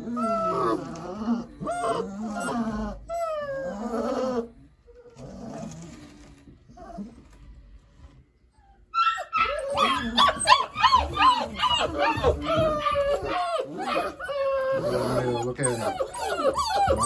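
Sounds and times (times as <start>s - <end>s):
puppy whining and crying: 0.0s - 6.1s, 6.7s - 7.4s, 8.4s - 17.0s.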